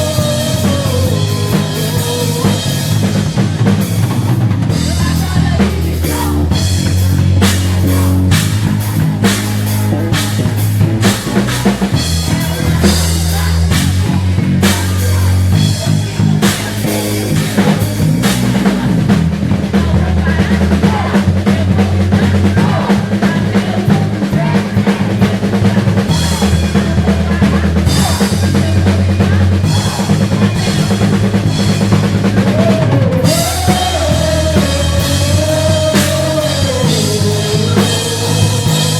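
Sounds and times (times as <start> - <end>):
drum kit playing: 0.0 - 38.9
held bass notes: 0.0 - 38.9.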